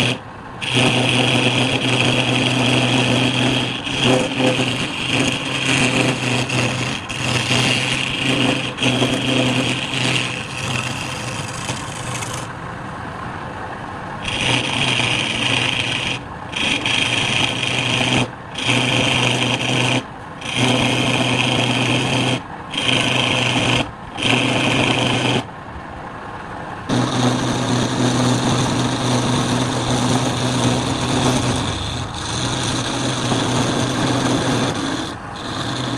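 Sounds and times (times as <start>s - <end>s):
tool scraping spinning wood: 0.0s - 12.5s, 14.2s - 25.5s, 26.9s - 35.9s
wood lathe running: 0.0s - 12.5s, 14.2s - 25.5s, 26.9s - 35.9s.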